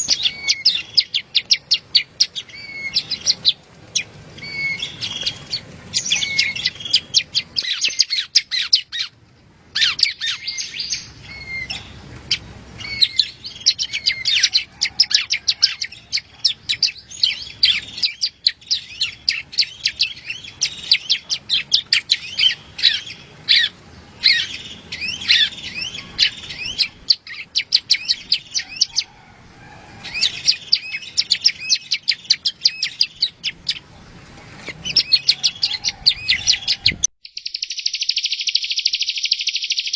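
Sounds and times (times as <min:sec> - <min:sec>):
bird singing high chirps and trills: 0:00.0 - 0:29.1, 0:30.0 - 0:39.9.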